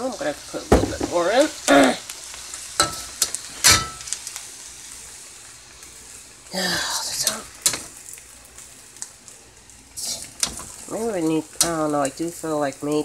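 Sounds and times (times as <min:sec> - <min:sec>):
rice sizzling in a wok: 0:00.0 - 0:13.0.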